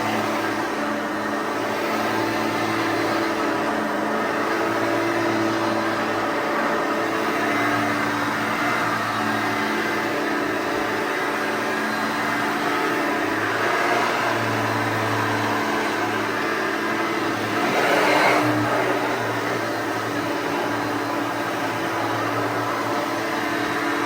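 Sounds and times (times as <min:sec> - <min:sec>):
upright vacuum cleaner running: 0:00.0 - 0:24.0.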